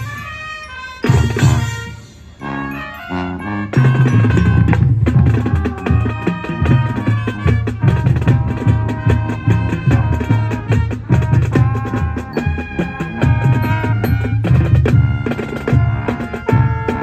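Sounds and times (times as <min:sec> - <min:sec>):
drumline beat: 0:00.0 - 0:02.1, 0:03.6 - 0:17.0
brass: 0:00.0 - 0:17.0
marching band playing: 0:00.0 - 0:17.0.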